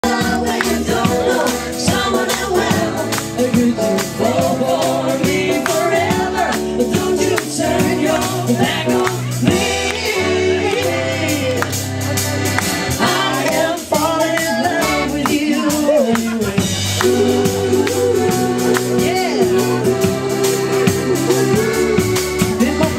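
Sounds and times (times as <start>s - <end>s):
lead vocal singing: 0.0s - 12.1s, 12.8s - 22.9s
live pop-rock band: 0.0s - 22.9s.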